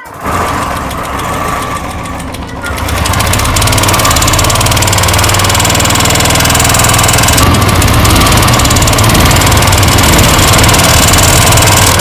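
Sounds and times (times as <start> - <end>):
motorcycle engine running: 0.0 - 12.0
rapid engine ticking: 0.0 - 12.0.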